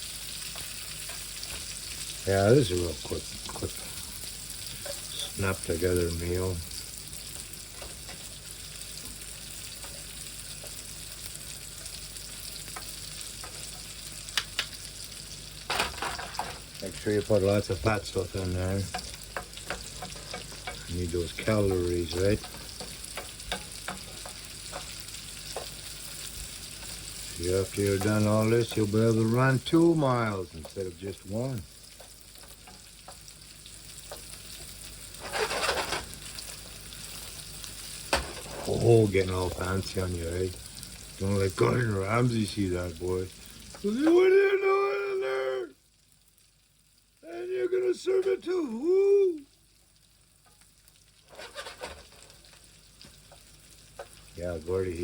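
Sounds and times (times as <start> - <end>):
potatoes sizzling in a pan: 0.0 - 55.0.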